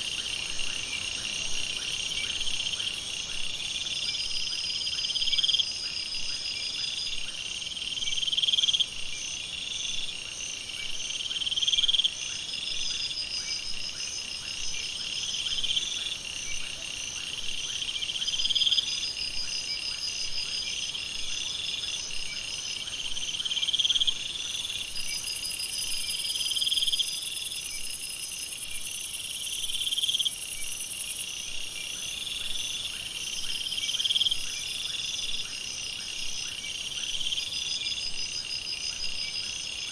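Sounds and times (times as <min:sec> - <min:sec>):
insect chorus chirps and trills: 0:00.0 - 0:39.9.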